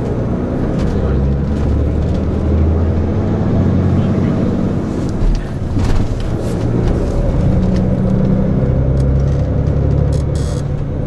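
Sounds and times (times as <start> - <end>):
diesel engine running: 0.0 - 11.0
road noise: 0.0 - 11.0.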